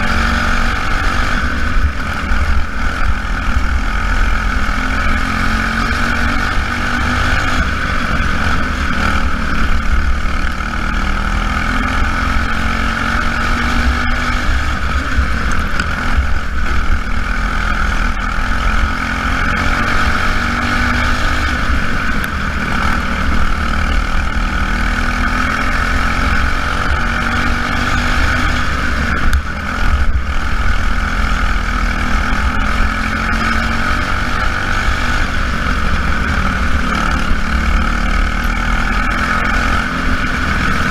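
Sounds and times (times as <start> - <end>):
small racing engines: 0.0 - 40.9.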